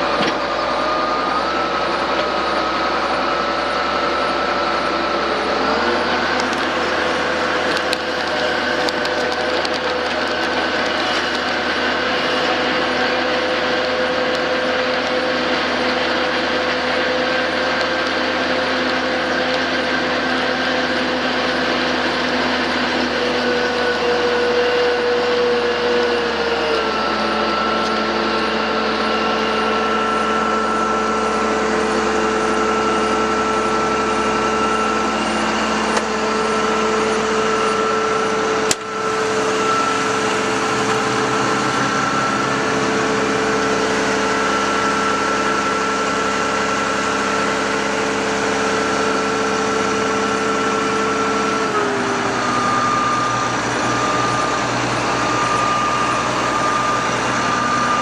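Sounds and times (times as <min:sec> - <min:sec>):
steady motor hum: 0:00.0 - 0:58.0.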